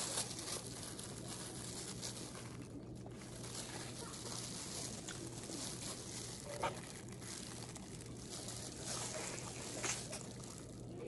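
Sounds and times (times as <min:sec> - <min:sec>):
faint eating sounds: 0:00.0 - 0:11.0
food rustling and crinkling: 0:00.0 - 0:11.0.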